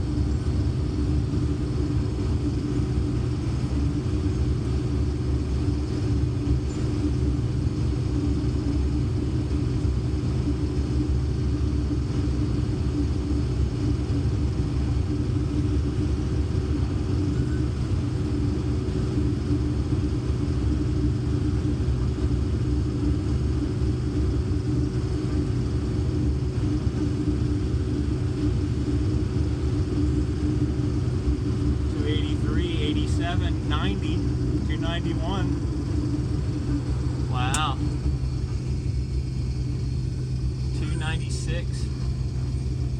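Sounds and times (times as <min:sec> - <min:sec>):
combine harvester droning: 0:00.0 - 0:42.9.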